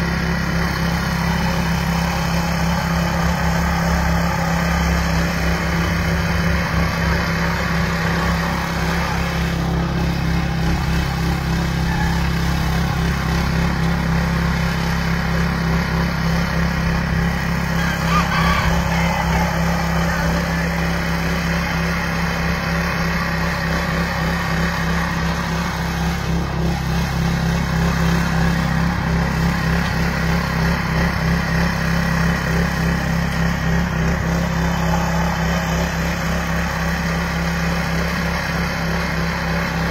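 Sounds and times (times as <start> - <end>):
garden tiller engine running: 0.0 - 39.9.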